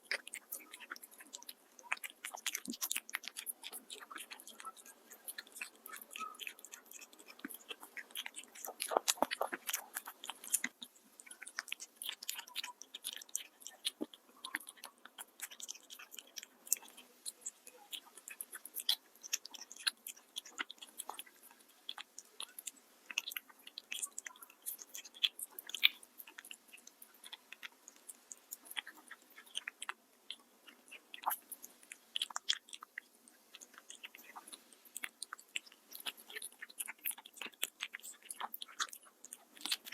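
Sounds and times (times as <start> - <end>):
cat chewing and crunching food: 0.0 - 39.9.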